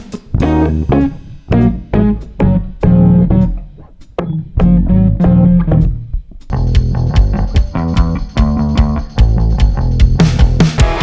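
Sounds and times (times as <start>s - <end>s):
band music with guitar and bass: 0.0s - 11.0s.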